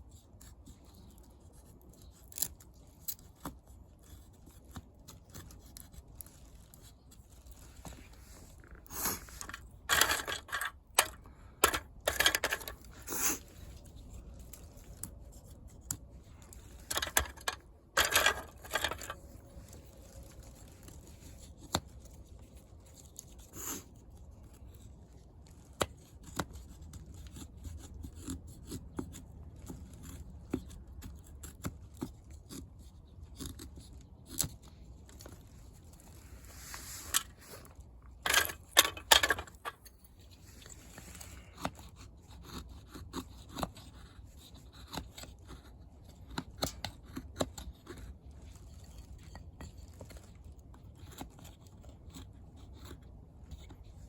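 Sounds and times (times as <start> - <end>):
scraping and tearing: 0.1 - 54.0.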